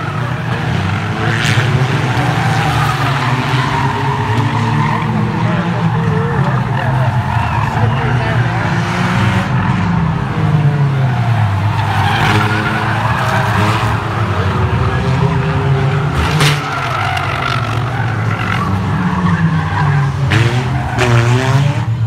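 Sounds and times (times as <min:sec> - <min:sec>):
car engines revving: 0:00.0 - 0:22.0
tyres skidding on dirt: 0:00.0 - 0:22.0.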